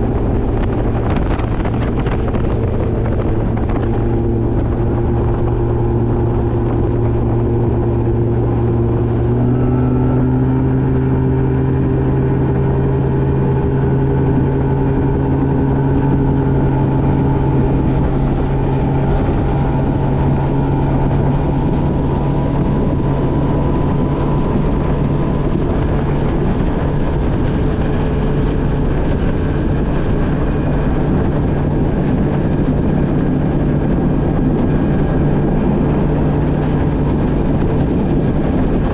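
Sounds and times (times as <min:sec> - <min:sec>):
outboard motor running at speed: 0:00.0 - 0:38.9.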